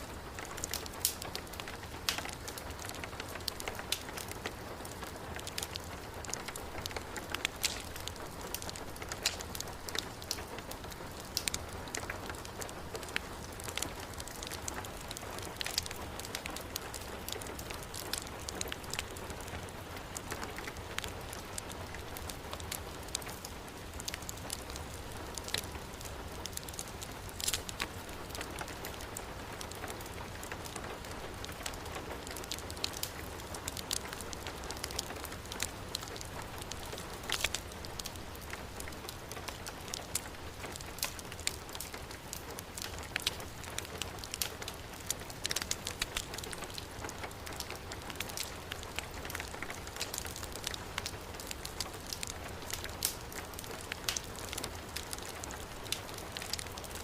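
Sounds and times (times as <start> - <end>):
heavy rain: 0.0 - 57.0
wood fire crackling: 0.0 - 57.0.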